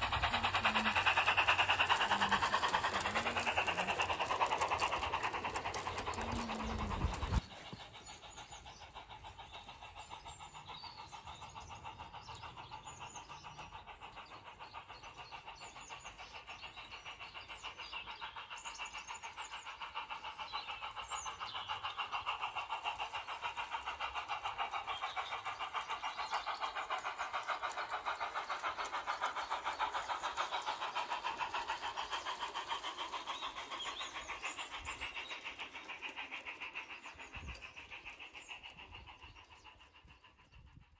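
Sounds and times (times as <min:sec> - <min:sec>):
model train wheels clicking on rail: 0:00.0 - 0:40.9.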